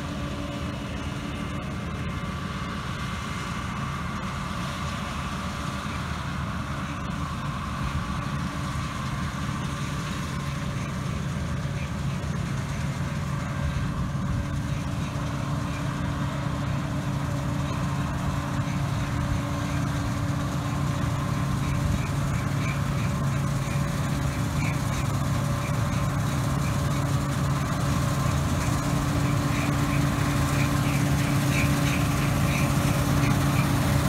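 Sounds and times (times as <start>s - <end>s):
combine harvester engine droning: 0.0s - 34.0s.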